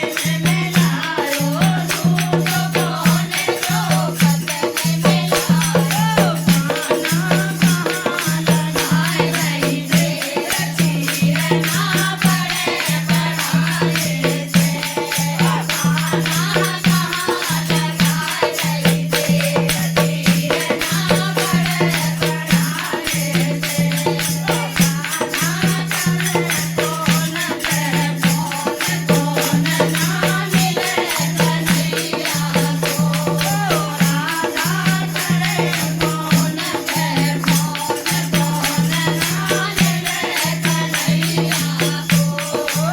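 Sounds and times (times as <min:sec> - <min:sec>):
jingling hand percussion: 0:00.0 - 0:42.9.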